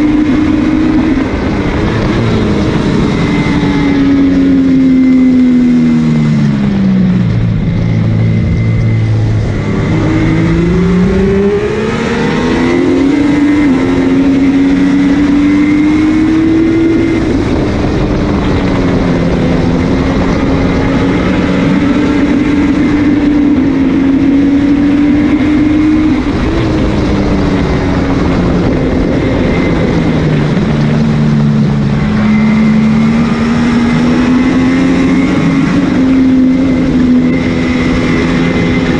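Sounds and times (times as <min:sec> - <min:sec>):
motorcycle engine at racing speed: 0:00.0 - 0:38.9
rush of noise: 0:00.0 - 0:38.9.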